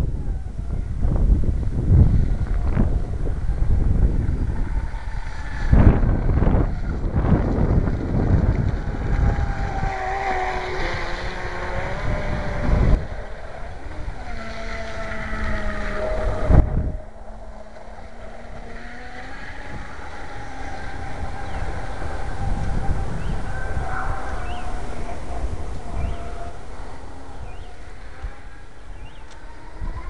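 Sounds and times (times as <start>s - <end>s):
electric motor of speedboat whining: 0.0s - 30.0s
wind buffeting microphone: 0.0s - 30.0s.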